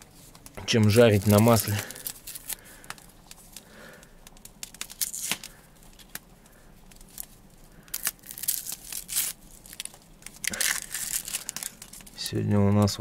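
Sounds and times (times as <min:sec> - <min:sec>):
onion skin crackling and tearing: 0:00.2 - 0:12.3.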